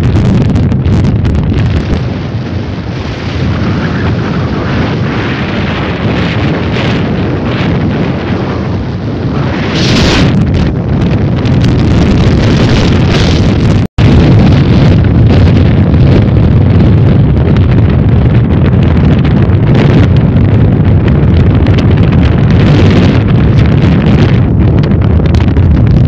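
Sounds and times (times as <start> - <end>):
storm wind gusting on microphone: 0.0 - 26.0.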